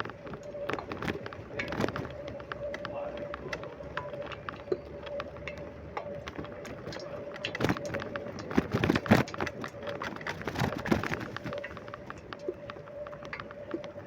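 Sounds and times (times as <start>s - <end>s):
bicycle clicks and rattles: 0.0s - 14.0s
steady hum of bicycle ride: 0.0s - 14.0s.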